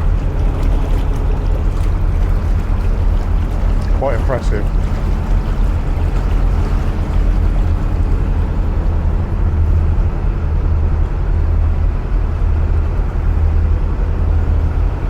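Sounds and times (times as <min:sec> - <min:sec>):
diesel boat engine throbbing: 0:00.0 - 0:15.0.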